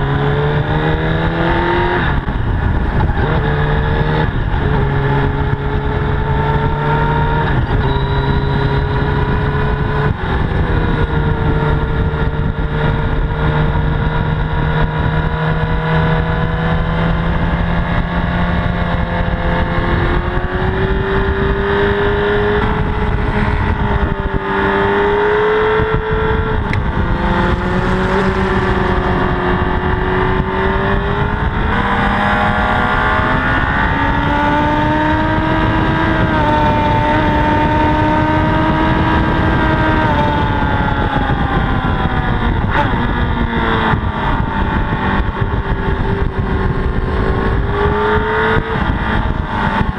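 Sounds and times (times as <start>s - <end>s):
motorcycle engine revving with gear changes: 0.0s - 49.9s.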